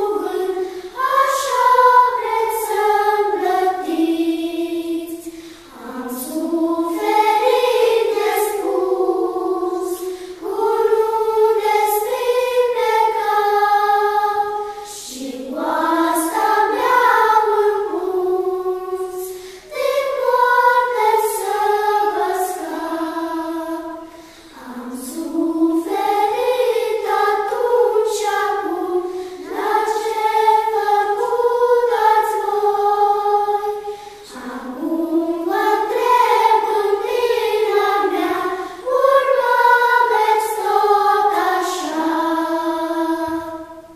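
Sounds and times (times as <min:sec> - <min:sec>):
children's choir singing: 0:00.0 - 0:43.9.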